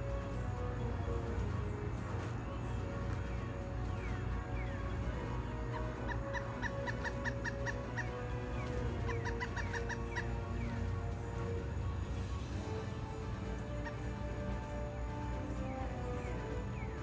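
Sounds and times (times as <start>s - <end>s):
steady low rumble: 0.0s - 17.0s
woodpecker calling: 0.0s - 17.0s.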